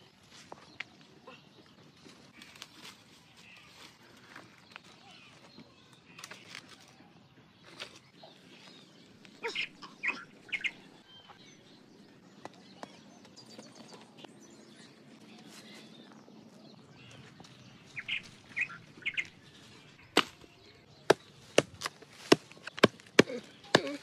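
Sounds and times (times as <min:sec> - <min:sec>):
birds chirping: 0:03.4 - 0:24.0.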